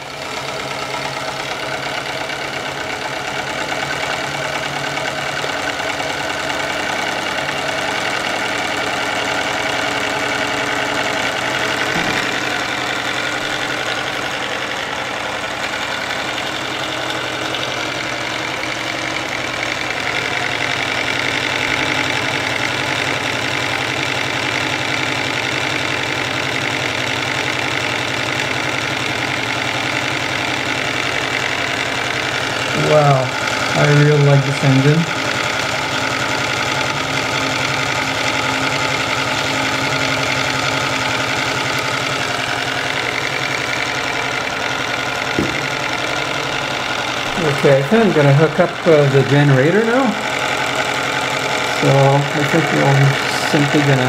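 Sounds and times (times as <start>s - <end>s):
steam engine rapid rattle: 0.0s - 54.0s.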